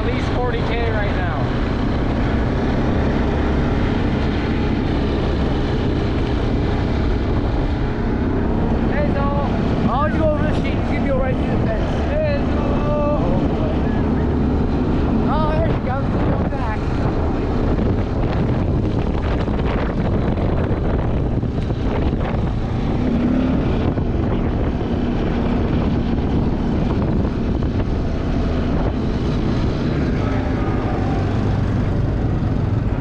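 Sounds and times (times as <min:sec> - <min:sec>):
low drone: 0:00.0 - 0:33.0
wind buffeting microphone: 0:00.0 - 0:33.0.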